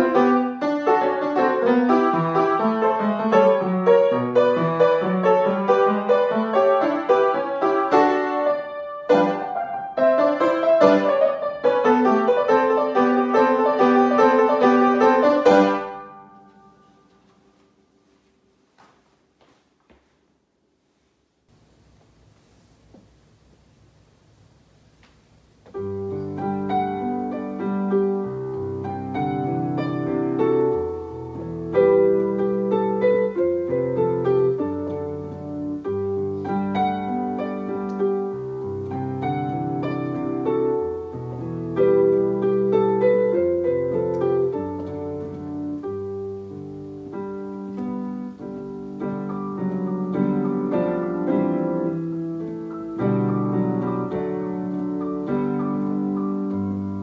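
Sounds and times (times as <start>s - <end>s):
piano playing: 0.0s - 17.6s, 25.7s - 57.0s.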